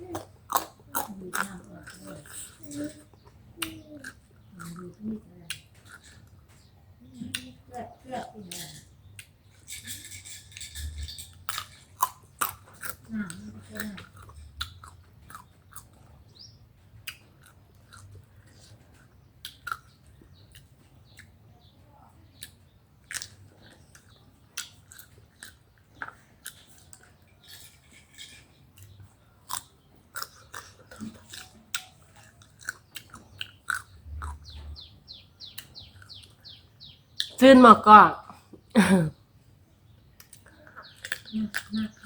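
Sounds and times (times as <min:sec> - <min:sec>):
crunching and chewing mango: 0:00.0 - 0:07.5, 0:08.4 - 0:37.4, 0:38.4 - 0:42.0.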